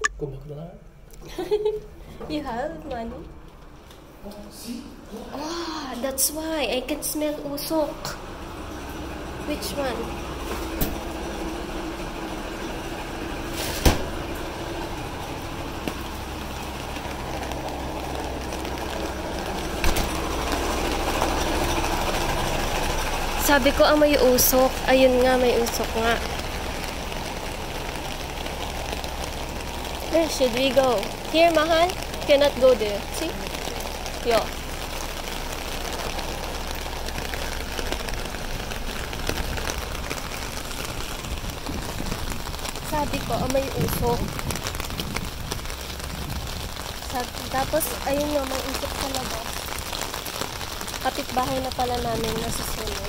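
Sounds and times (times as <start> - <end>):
fire engine running: 6.0 - 53.0.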